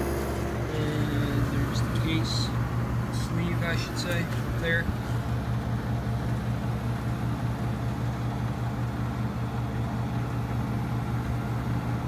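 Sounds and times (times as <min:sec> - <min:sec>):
window air conditioner running: 0:00.0 - 0:12.0.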